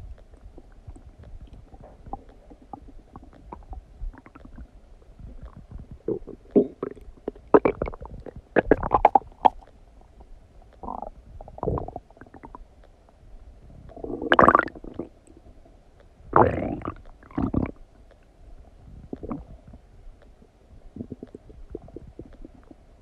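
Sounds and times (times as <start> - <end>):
stomach gurgling: 0.0 - 12.7, 13.6 - 23.0.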